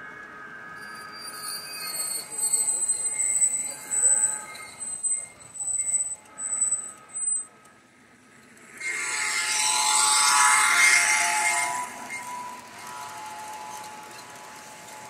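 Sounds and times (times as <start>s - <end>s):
model locomotive whirring and rattling: 0.0s - 15.0s
model train wheel squeals: 0.6s - 7.8s, 8.5s - 15.0s.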